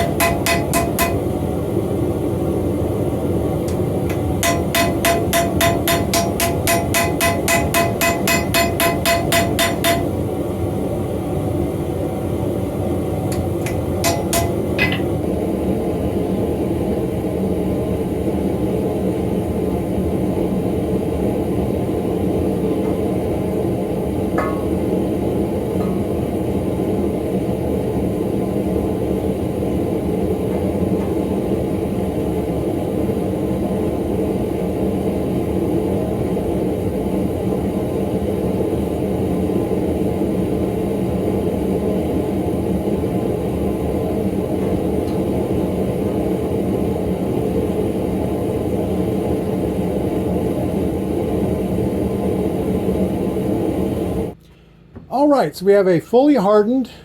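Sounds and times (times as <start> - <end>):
forge humming: 0.0 - 54.4.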